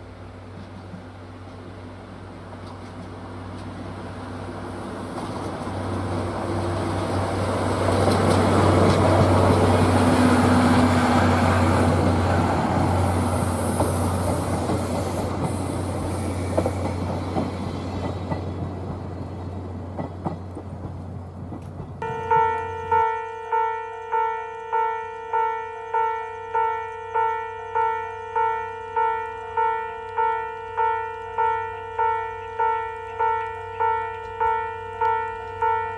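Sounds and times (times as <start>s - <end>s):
locomotive engine drone: 0.0s - 35.9s
train rumble: 0.0s - 35.9s.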